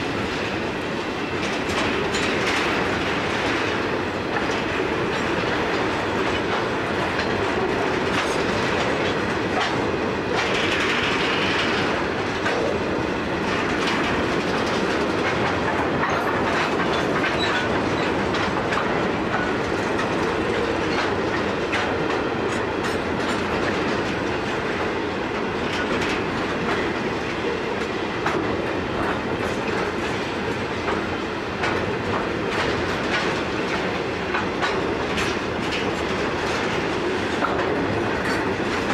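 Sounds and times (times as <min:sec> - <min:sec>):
train wheels clicking on rail joints: 0:00.0 - 0:38.9.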